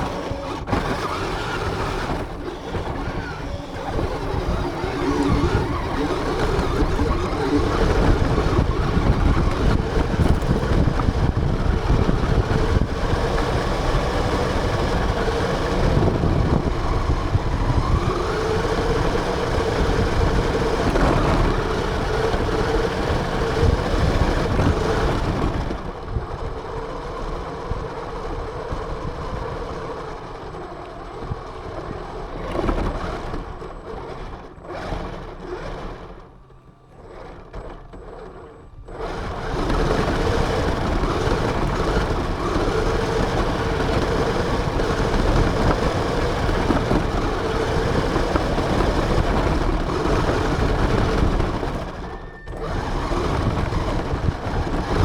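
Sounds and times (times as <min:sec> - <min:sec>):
remote control car motor running: 0:00.0 - 0:55.0.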